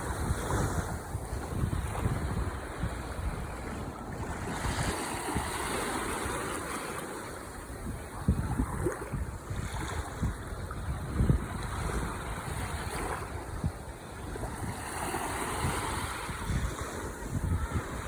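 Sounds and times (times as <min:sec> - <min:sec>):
ocean waves washing ashore: 0:00.0 - 0:18.0
wind rumble on microphone: 0:00.0 - 0:18.0.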